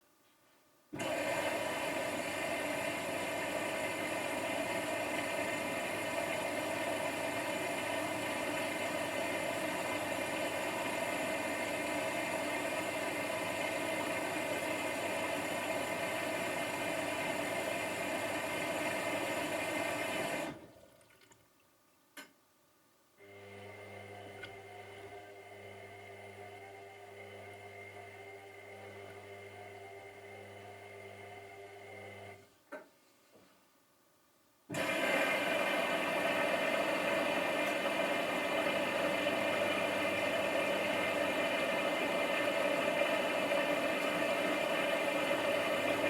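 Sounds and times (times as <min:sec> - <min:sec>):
washing machine running: 0:01.0 - 0:21.0, 0:23.2 - 0:32.4, 0:34.7 - 0:46.0.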